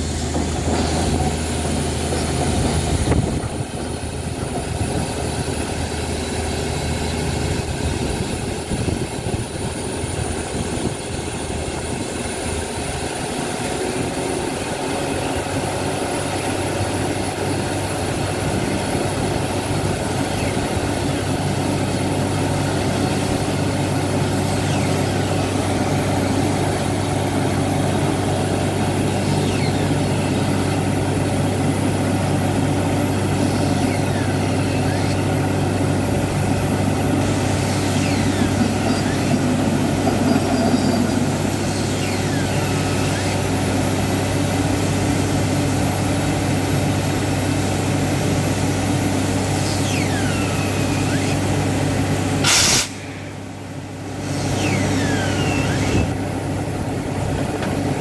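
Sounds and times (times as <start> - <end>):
drilling rig engine drone: 0.0 - 58.0.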